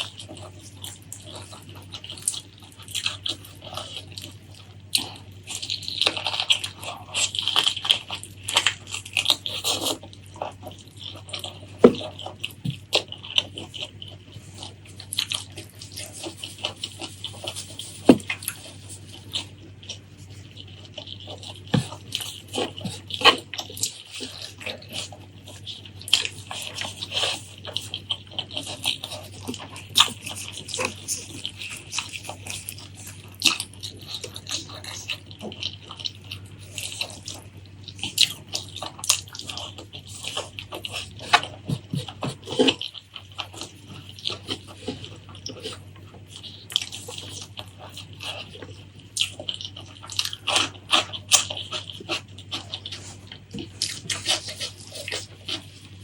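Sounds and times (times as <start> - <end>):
wet chewing and lip-smacking: 0.0 - 56.0.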